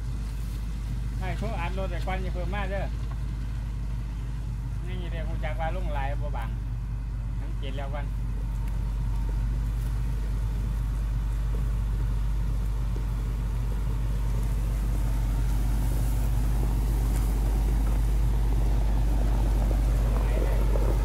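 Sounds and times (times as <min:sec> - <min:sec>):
grader diesel engine running: 0:00.0 - 0:21.0.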